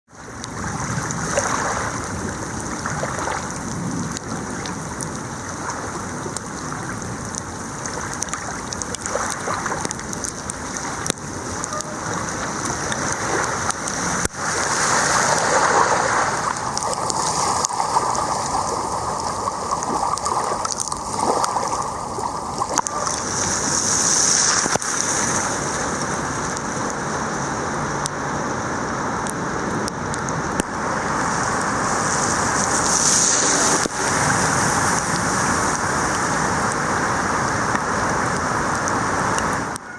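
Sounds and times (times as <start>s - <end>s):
bike tyres rolling on wet ground: 0.1s - 39.9s.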